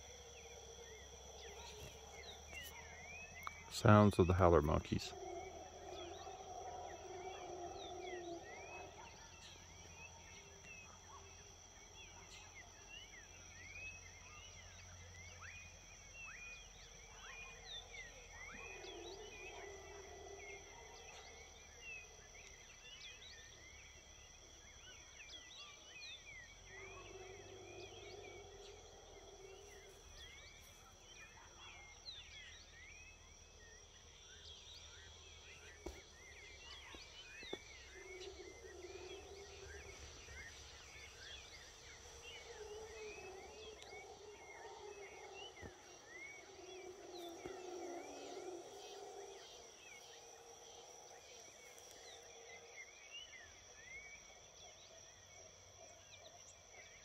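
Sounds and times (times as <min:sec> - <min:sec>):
high insect drone: 0:00.0 - 0:57.0
howler monkeys howling: 0:00.0 - 0:57.0.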